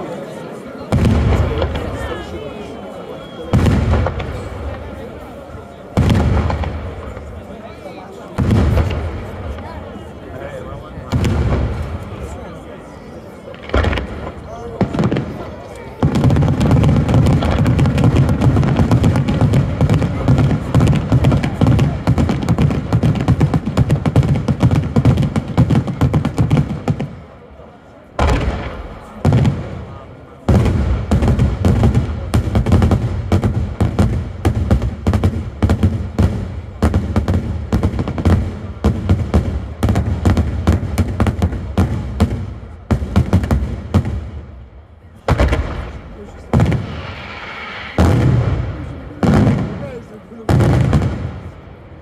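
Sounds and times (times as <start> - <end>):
fireworks bangs and thuds: 0.8 - 2.7, 3.4 - 52.0.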